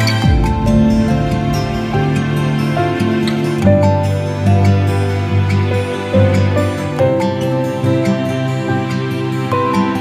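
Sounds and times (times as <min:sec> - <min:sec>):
slow gentle instrumental music: 0:00.0 - 0:10.0.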